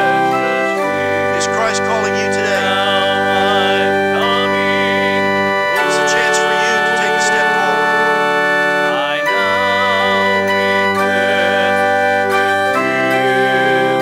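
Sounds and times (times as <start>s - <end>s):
congregation singing a hymn: 0.0s - 14.0s
organ playing held chords: 0.0s - 14.0s.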